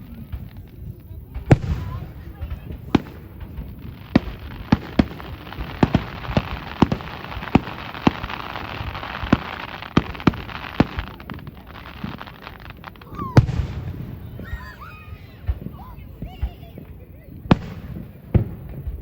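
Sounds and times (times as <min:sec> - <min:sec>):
firework bangs: 0:00.0 - 0:19.0
firework crackling: 0:00.0 - 0:19.0.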